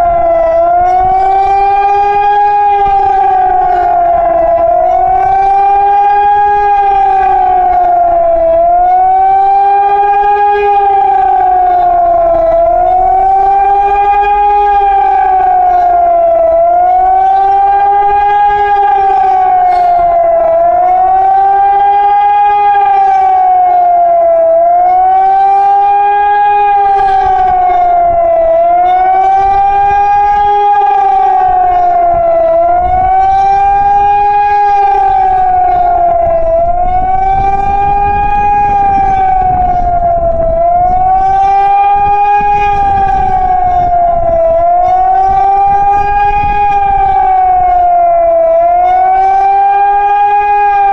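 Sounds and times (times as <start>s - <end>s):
wavering warning siren wail: 0.0s - 50.9s.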